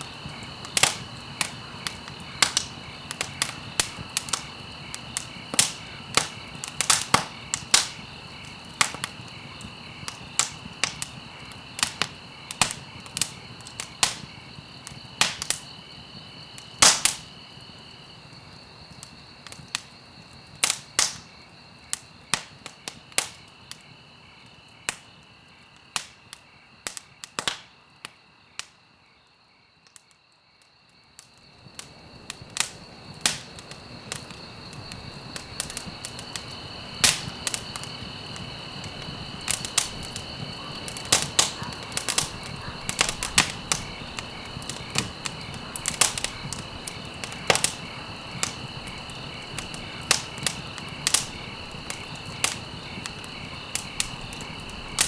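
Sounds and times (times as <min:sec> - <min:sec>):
fire hissing: 0:00.0 - 0:21.2, 0:31.7 - 0:55.0
wood fire crackling: 0:00.0 - 0:28.8, 0:29.9 - 0:55.0.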